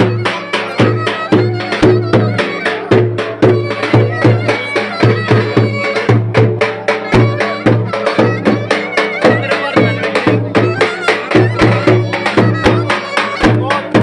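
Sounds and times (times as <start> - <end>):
live folk dance music: 0.0 - 14.0.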